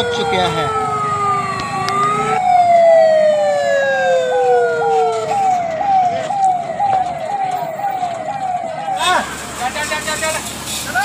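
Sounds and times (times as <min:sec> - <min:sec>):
siren wailing falling pitch: 0:00.0 - 0:09.3
siren yelping: 0:00.0 - 0:10.0.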